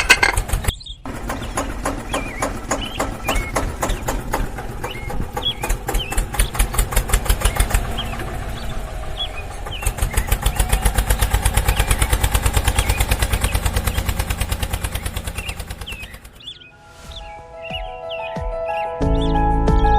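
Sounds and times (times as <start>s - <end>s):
small engine putt-putting: 0.0s - 16.4s
birds chirping: 0.0s - 19.9s.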